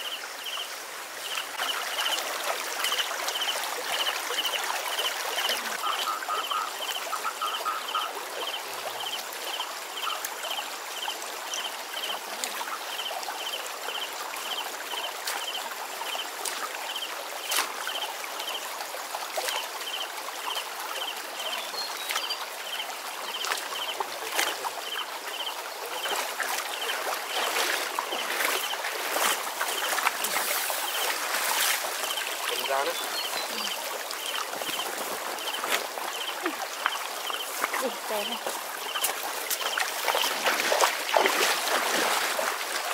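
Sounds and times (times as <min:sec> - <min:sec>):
stream water running: 0:00.0 - 0:42.9
water splashing and dripping: 0:01.2 - 0:42.9.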